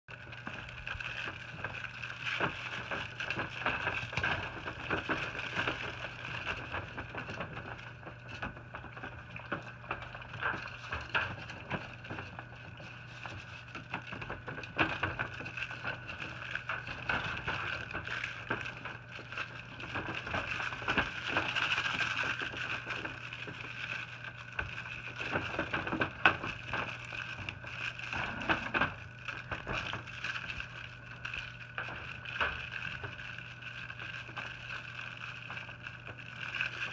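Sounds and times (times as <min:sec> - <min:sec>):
puppies scuffling in crate: 0:00.1 - 0:36.9
steady hum: 0:00.1 - 0:36.9.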